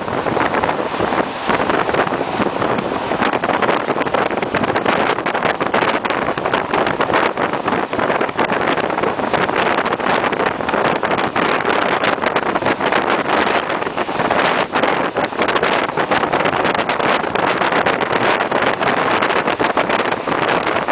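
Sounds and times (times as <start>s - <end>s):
train wheels and air rushing: 0.0s - 20.9s
wind buffeting microphone: 0.0s - 20.9s.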